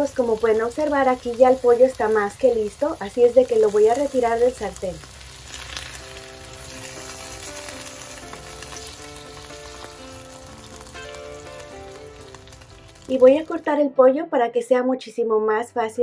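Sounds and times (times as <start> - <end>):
chicken sizzling in a pan: 0.0 - 13.7
soft background music: 0.0 - 16.0.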